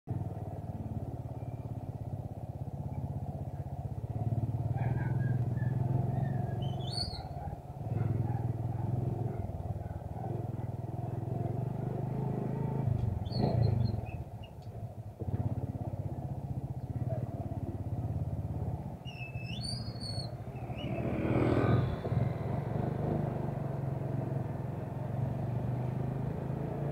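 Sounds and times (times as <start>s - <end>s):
motorcycle engine running: 0.1s - 26.9s.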